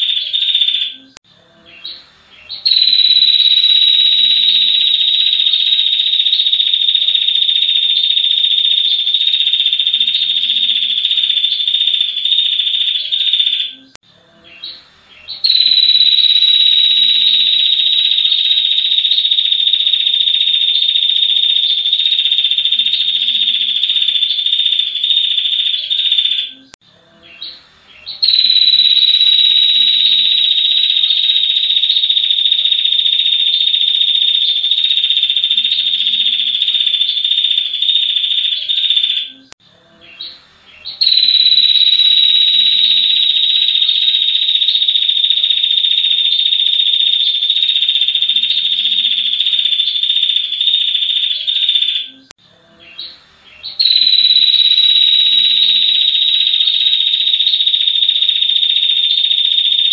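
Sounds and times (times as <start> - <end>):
bird trilling: 0.0 - 13.9, 14.6 - 26.7, 28.1 - 39.4, 40.8 - 52.3, 53.6 - 59.9.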